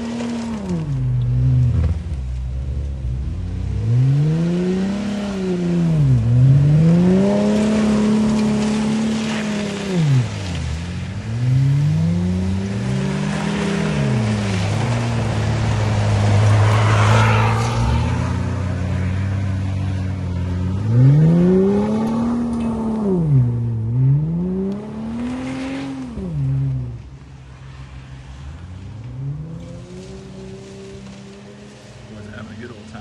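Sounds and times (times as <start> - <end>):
engine revving: 0.0 - 33.0.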